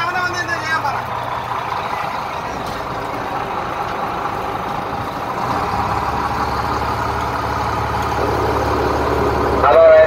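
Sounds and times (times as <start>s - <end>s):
boat engine humming and rumbling: 0.0s - 10.0s
deep low drone: 1.0s - 10.0s.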